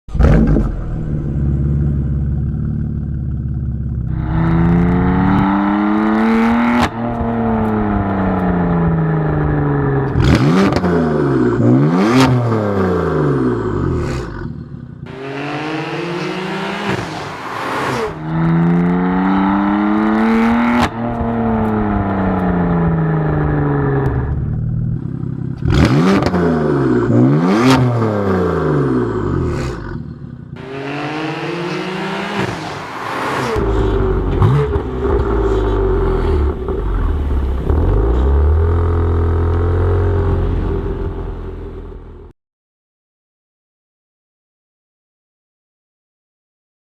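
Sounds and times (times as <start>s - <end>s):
car engine idling and revving: 0.1s - 42.3s.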